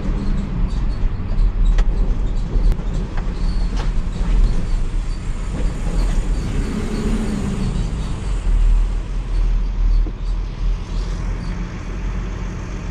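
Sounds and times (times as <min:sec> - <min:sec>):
diesel engine drone: 0:00.0 - 0:12.9
road and body noise: 0:00.0 - 0:12.9.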